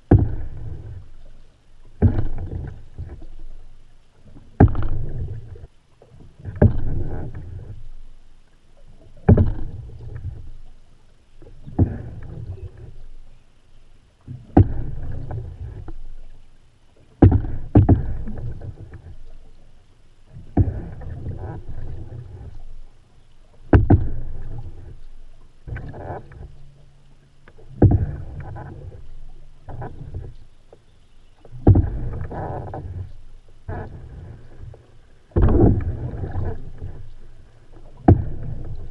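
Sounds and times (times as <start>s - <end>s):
canoe paddle strokes splashing: 0.0s - 38.9s.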